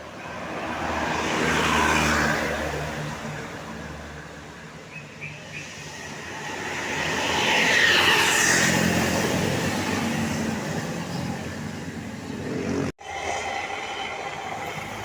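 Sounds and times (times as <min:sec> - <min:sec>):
bus driving past: 0:00.0 - 0:15.0.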